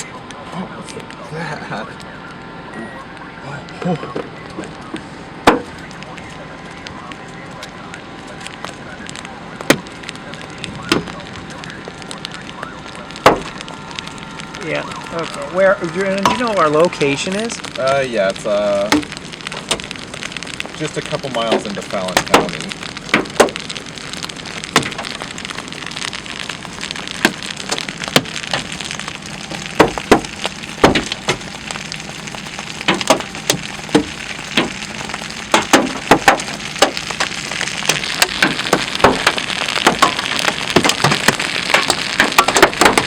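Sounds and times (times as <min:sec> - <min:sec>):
rain hissing: 0:00.0 - 0:43.0
hail cracking on a vehicle: 0:03.4 - 0:43.0.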